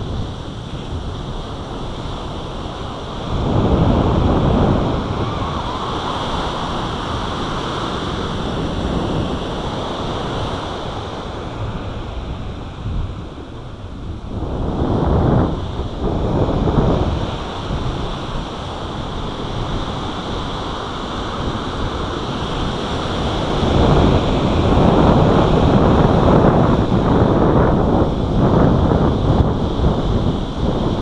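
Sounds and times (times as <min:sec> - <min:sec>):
ocean surf breaking: 0:00.0 - 0:31.0
wind buffeting microphone: 0:00.0 - 0:31.0.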